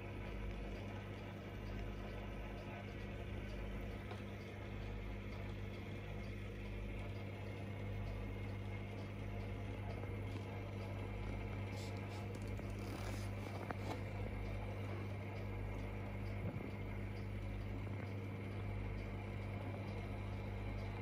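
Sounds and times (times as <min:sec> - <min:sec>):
low mains hum: 0:00.0 - 0:21.0.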